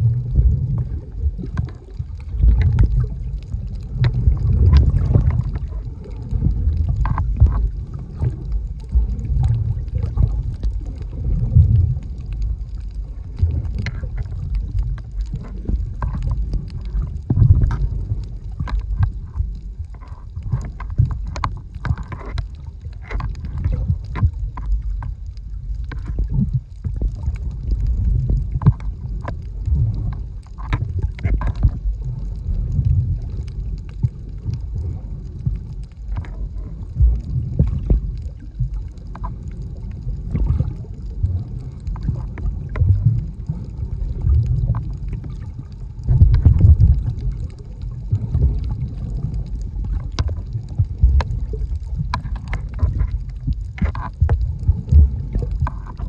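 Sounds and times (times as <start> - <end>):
muffled underwater rumble: 0.0 - 56.0
underwater clicks and crackles: 0.0 - 56.0.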